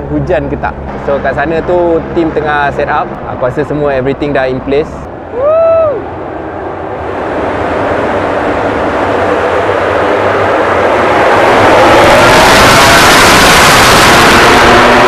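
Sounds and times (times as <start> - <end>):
racing motorcycles at full throttle: 0.0 - 5.1, 6.1 - 15.0.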